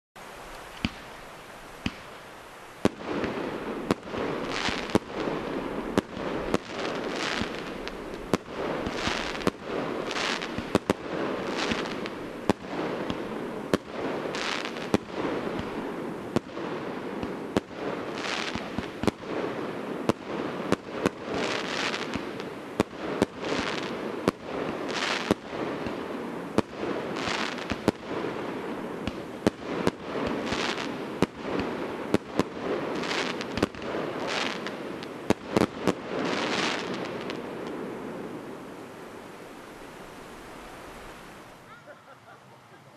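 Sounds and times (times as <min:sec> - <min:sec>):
firework hiss and crackle: 0:00.2 - 0:42.7
firework shots: 0:00.8 - 0:01.2, 0:01.8 - 0:02.2, 0:02.8 - 0:38.6.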